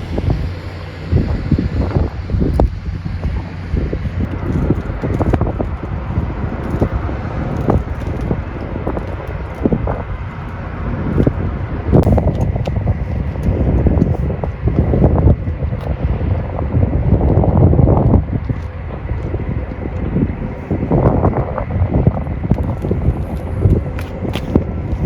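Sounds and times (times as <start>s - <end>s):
wind gusting across microphone: 0.0s - 25.0s.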